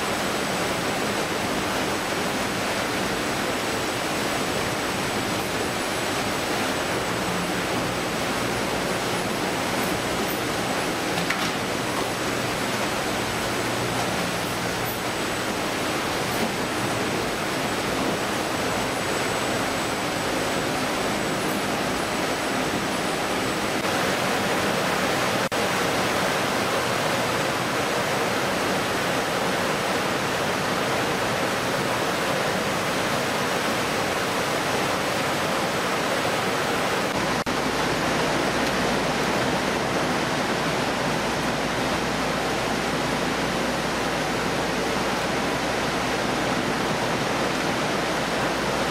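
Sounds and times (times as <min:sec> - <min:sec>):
water spraying and flowing: 0:00.0 - 0:48.9.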